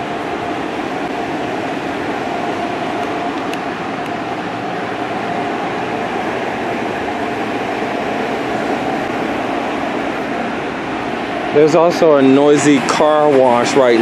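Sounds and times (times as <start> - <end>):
car wash machinery rushing: 0.0 - 14.0.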